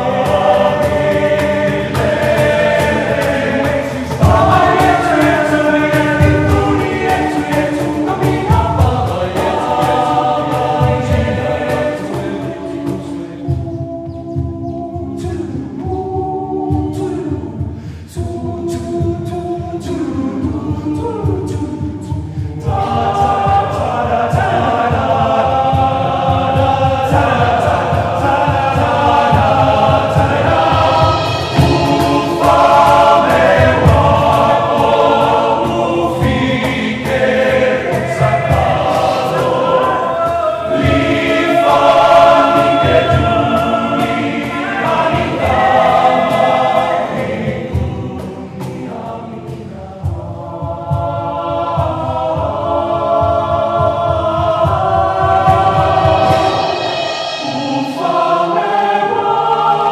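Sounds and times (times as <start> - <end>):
drum beating: 0.0 - 59.9
male group singing: 0.0 - 59.9.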